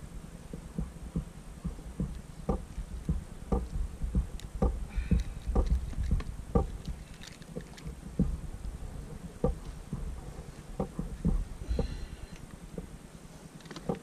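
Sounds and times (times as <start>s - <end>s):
low rumble: 0.0s - 13.4s
water slapping against kayak hull: 0.4s - 12.0s.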